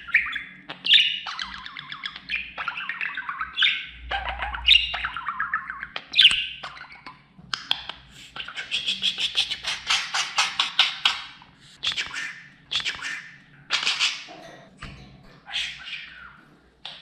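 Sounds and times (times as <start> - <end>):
budgerigar chattering calls: 0.0 - 14.4.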